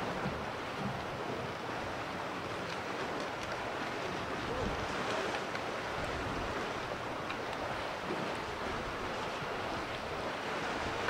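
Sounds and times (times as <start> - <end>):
seawater lapping: 0.0 - 11.0.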